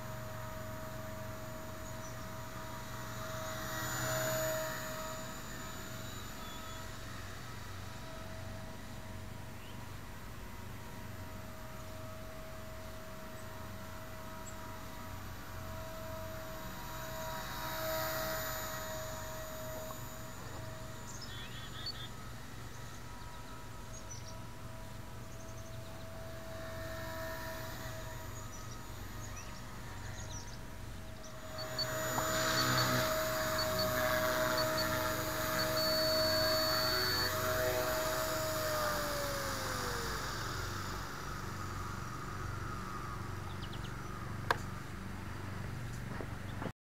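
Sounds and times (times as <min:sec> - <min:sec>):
rc helicopter rotors whining: 0:00.0 - 0:46.7
steady low hum: 0:00.0 - 0:46.7.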